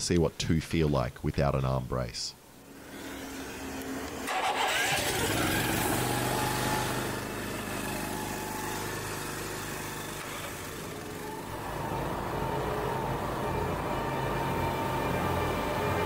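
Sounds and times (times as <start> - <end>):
pressure washer engines running: 2.7 - 16.0.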